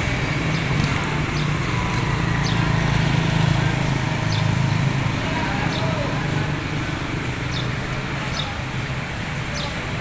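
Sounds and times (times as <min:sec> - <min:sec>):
traffic engine hum: 0:00.0 - 0:10.0.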